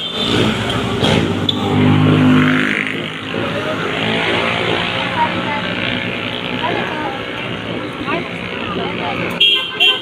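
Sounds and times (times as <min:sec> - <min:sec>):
motorcycle engines running: 0:00.0 - 0:09.8.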